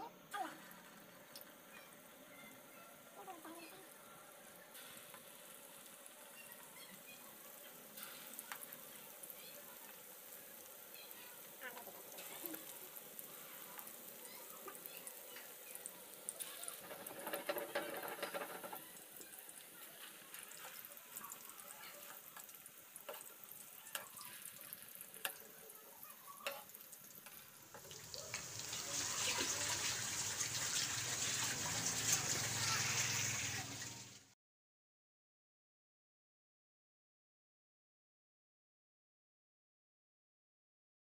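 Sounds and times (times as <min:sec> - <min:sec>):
food deep-frying in hot oil: 0:00.0 - 0:34.4.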